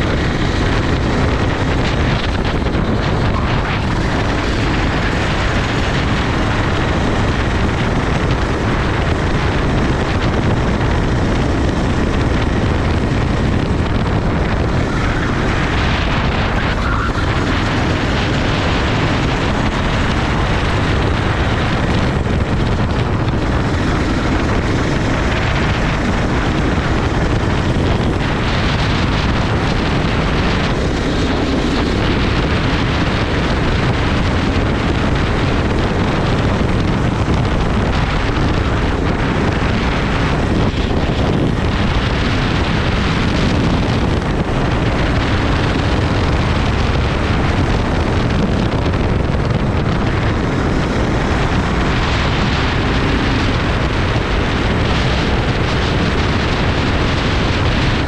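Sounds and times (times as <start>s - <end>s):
go-kart engine: 0.0s - 58.0s
wind buffeting microphone: 0.0s - 58.0s.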